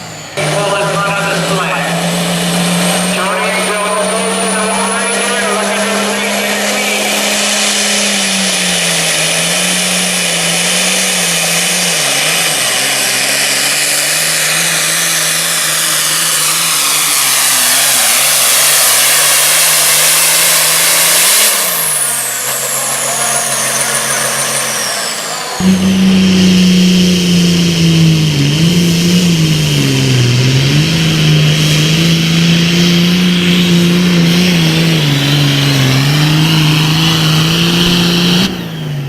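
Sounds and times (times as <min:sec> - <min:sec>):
diesel tractor engine under load: 0:00.0 - 0:39.0.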